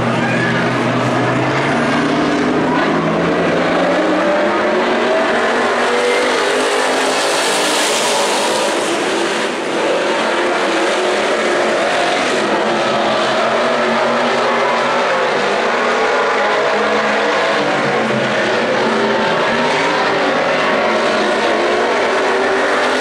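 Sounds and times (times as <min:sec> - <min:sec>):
race car engines roaring: 0:00.0 - 0:23.0.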